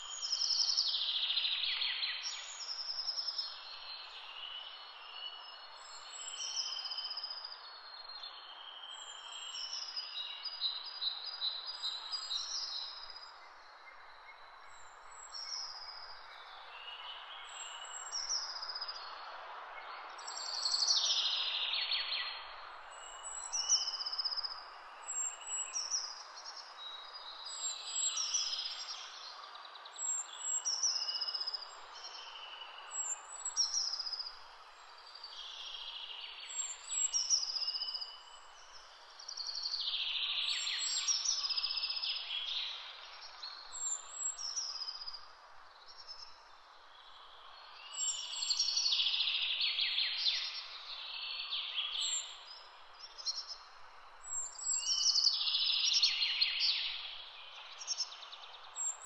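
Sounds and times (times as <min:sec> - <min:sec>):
birds singing: 0:00.0 - 0:19.2, 0:19.8 - 0:59.0.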